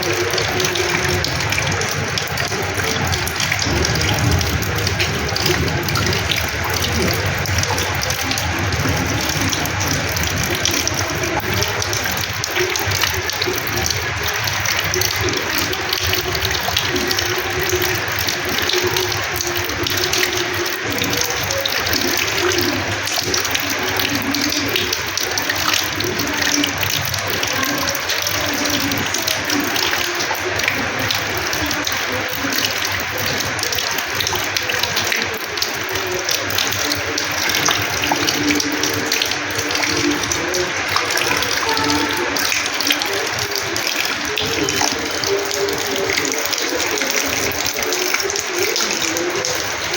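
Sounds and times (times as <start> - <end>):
rainwater splashing on floor: 0.0 - 49.9.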